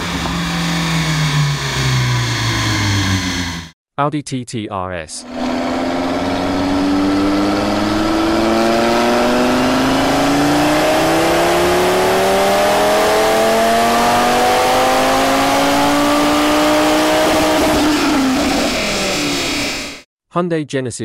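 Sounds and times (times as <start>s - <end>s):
car engine revving at full throttle: 0.0s - 3.7s, 5.2s - 20.0s.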